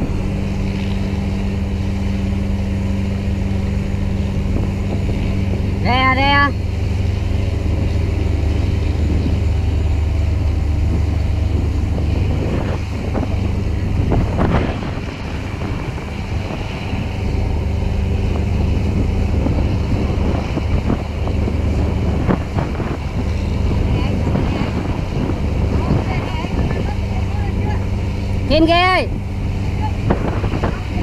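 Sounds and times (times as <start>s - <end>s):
boat engine droning: 0.0s - 31.0s
wind buffeting microphone: 0.0s - 31.0s.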